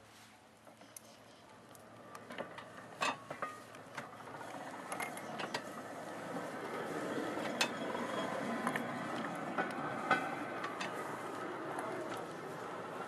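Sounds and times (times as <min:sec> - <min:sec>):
wheels rolling on rails: 0:00.0 - 0:13.0.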